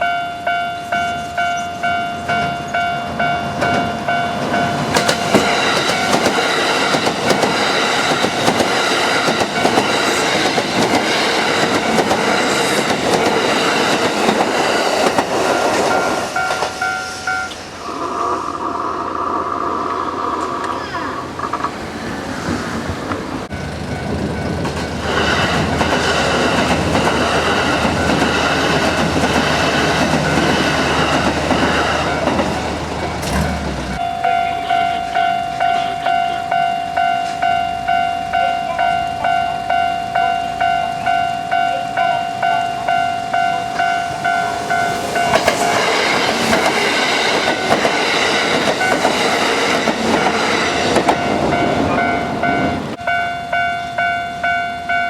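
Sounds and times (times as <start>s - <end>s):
crossing warning bell ringing: 0.0s - 17.9s, 23.4s - 55.0s
train rumbling past: 0.0s - 55.0s.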